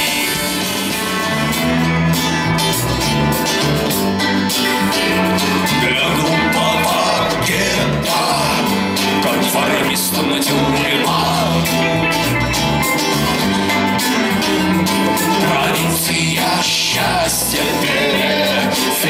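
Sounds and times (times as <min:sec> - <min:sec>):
wavering high melody: 0:00.0 - 0:18.3
bass line: 0:00.0 - 0:19.0
guitar: 0:00.0 - 0:19.0.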